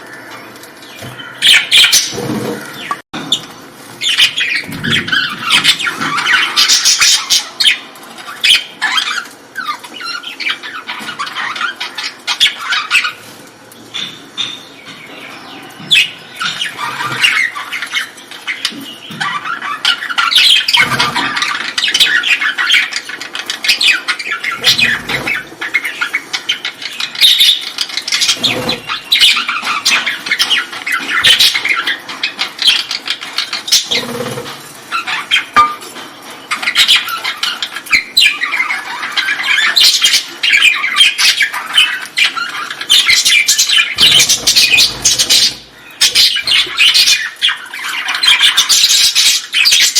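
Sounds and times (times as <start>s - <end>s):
birds chattering and squawking: 0.0s - 49.9s.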